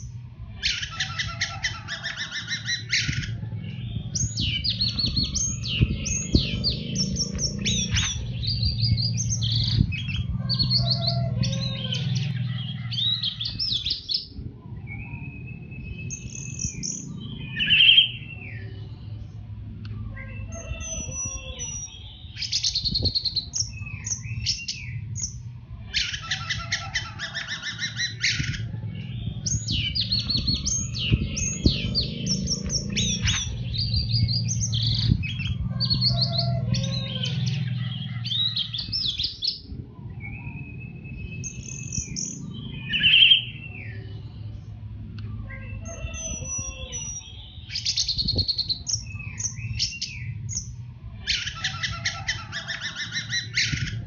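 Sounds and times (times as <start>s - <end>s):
thrush singing whistles and trills: 0.0s - 44.6s, 45.3s - 54.0s.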